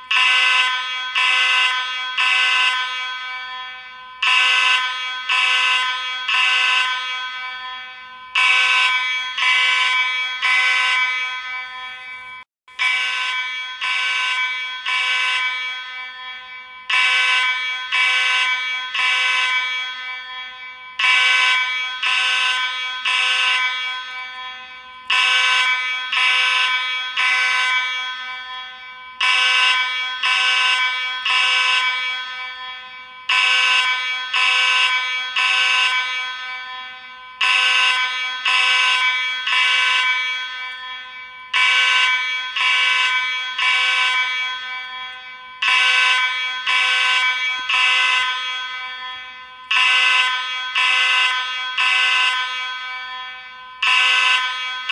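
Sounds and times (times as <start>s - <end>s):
fire alarm buzzy blasts: 0.0s - 54.9s.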